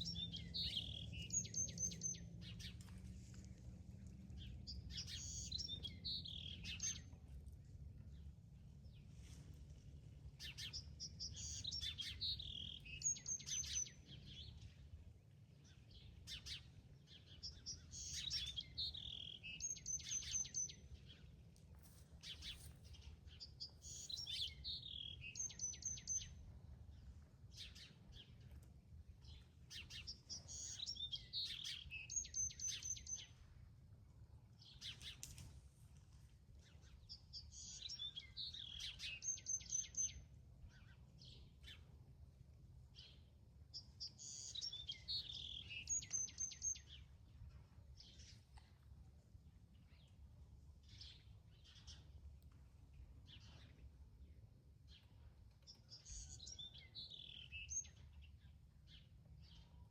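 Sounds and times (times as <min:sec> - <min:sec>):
songbird singing: 0:00.0 - 0:09.0, 0:10.3 - 0:33.7, 0:34.6 - 0:35.5, 0:36.5 - 0:42.1, 0:42.9 - 0:48.8, 0:49.6 - 0:59.9
faint low rumble: 0:00.0 - 0:39.0, 0:46.2 - 0:57.0.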